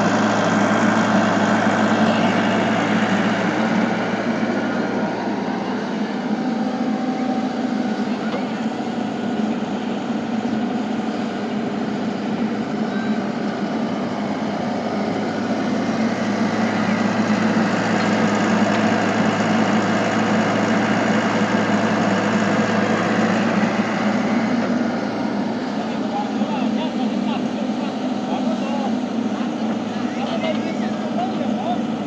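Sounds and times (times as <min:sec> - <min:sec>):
excavator running: 0:00.0 - 0:32.0.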